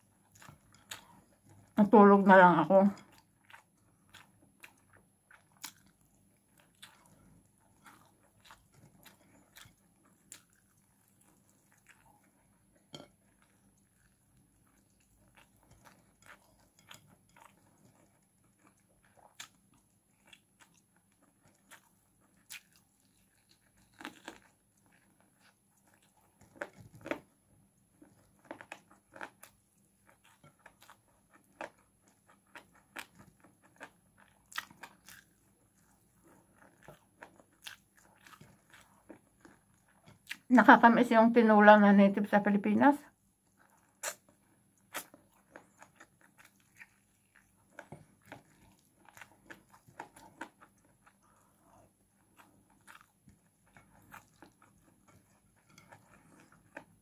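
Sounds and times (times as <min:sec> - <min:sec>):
person chewing food: 0:00.0 - 0:01.8, 0:02.7 - 0:40.5, 0:43.1 - 0:57.0.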